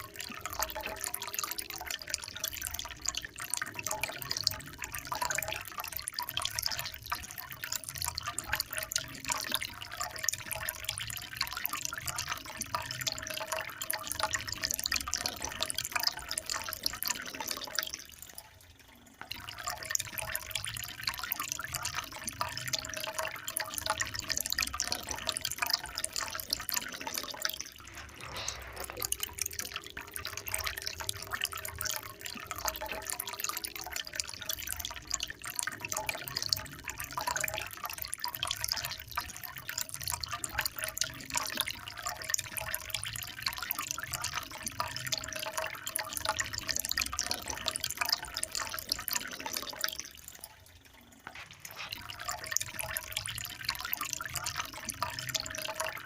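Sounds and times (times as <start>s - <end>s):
water trickling and splashing: 0.0s - 56.0s.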